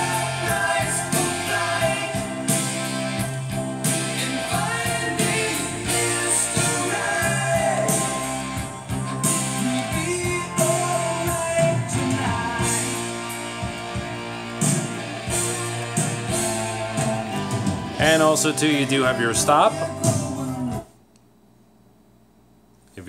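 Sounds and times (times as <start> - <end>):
song with singing from record: 0.0 - 21.0.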